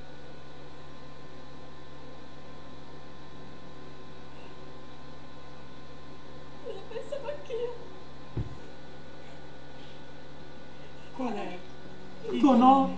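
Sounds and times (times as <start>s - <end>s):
electrical mains hum: 0.0s - 12.9s.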